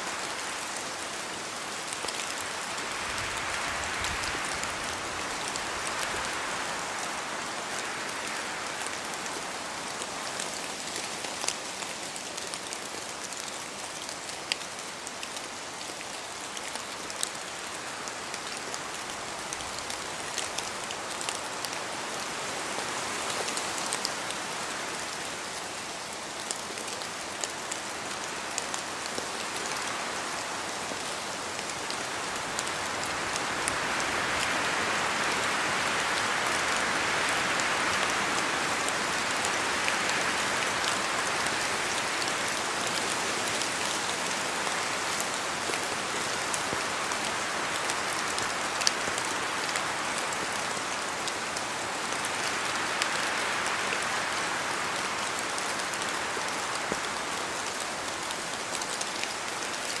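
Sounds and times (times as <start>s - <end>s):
rain falling on foliage: 0.0s - 60.0s.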